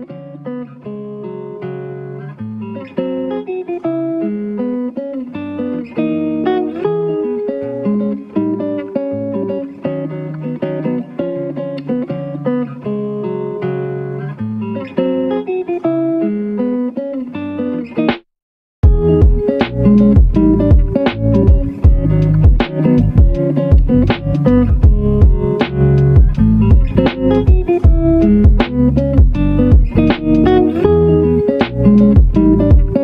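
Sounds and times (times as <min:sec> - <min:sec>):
plucked guitar music: 0:00.0 - 0:33.0.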